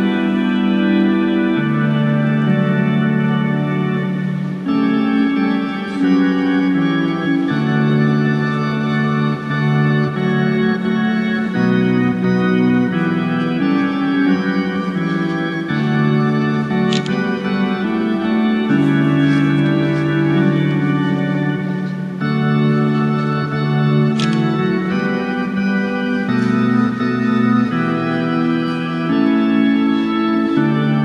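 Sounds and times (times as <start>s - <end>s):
slow organ chorale: 0.0s - 31.0s.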